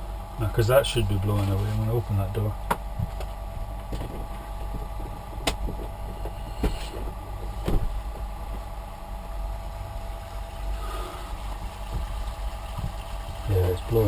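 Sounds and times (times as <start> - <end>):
electric fan humming: 0.0 - 14.0.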